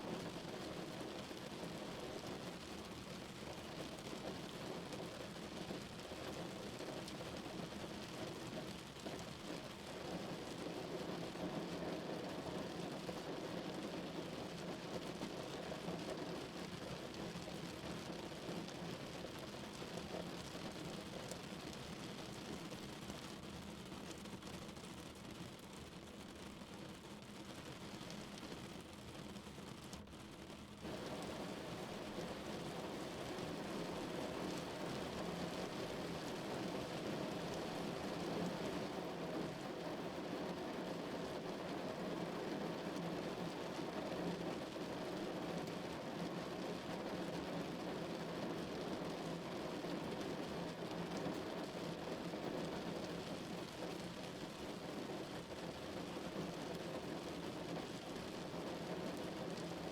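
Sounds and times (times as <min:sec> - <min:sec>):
rain on car roof: 0:00.1 - 0:59.9.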